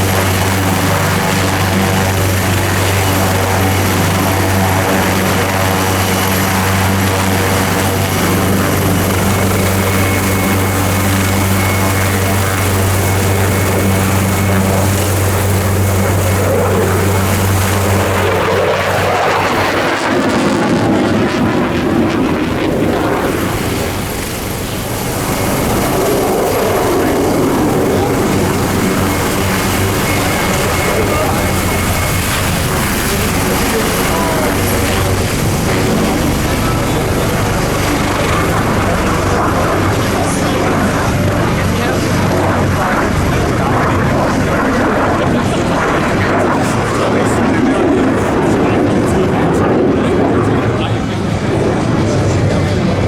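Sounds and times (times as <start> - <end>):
helicopter rotor drone: 0.0 - 53.0
wavering rumble: 0.0 - 53.0.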